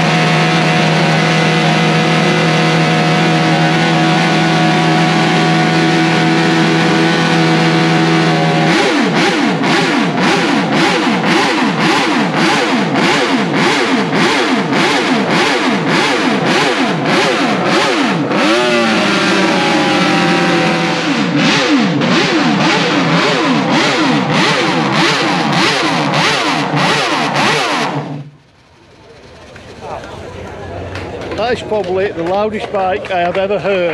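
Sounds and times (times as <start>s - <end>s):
racing engine revving: 0.0s - 33.9s.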